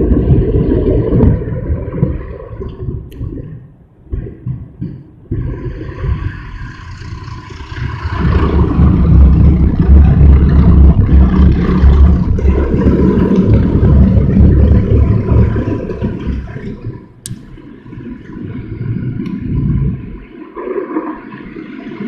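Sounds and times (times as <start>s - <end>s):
deep drumming rumble: 0.0s - 20.3s.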